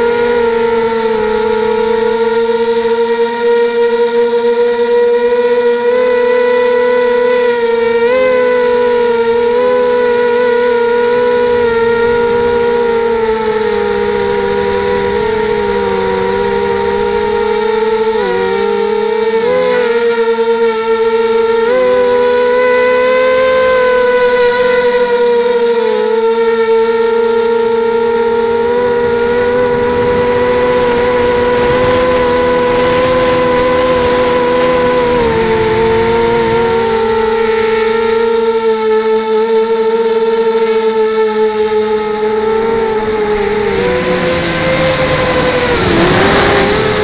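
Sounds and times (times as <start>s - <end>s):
drone motors whining: 0.0s - 47.0s
high electronic whine: 0.0s - 47.0s.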